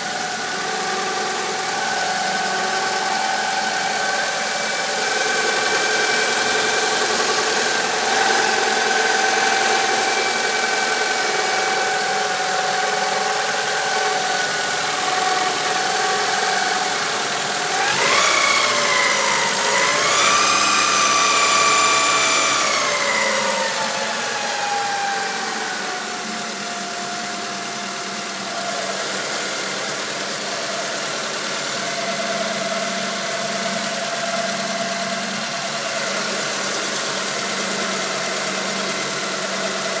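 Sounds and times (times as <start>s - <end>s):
car engine revving with whine: 0.0s - 40.0s.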